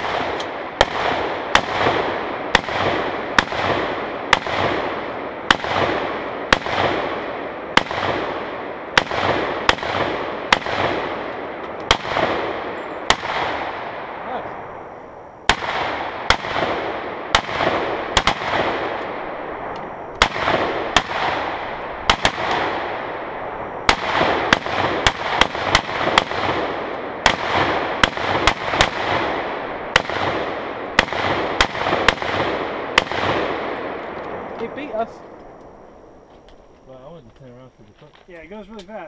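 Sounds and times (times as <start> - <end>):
gunshots with echo: 0.0 - 14.8, 15.4 - 35.1.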